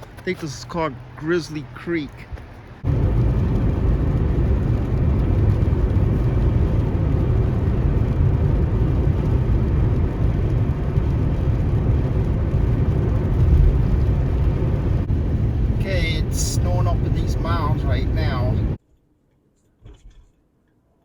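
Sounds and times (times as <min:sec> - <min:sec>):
car engine and tyre noise: 0:00.0 - 0:18.8.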